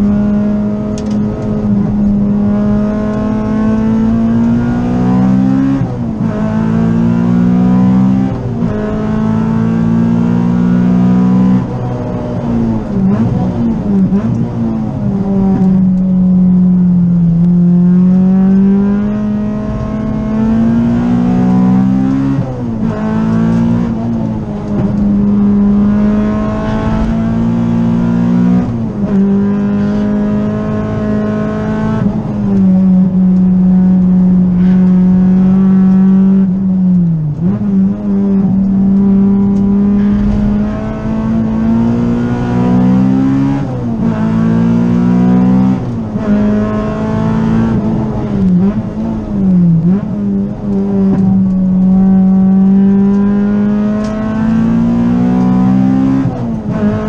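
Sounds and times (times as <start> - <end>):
car engine revving hard: 0.0 - 15.7, 16.3 - 57.0.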